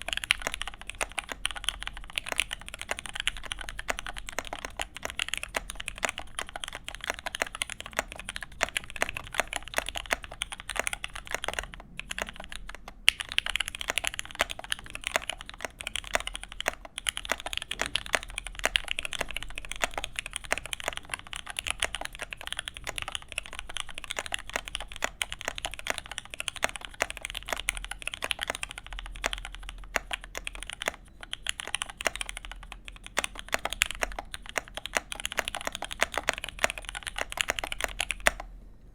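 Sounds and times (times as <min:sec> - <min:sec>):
fast typing on mechanical keyboard: 0:00.0 - 0:38.5.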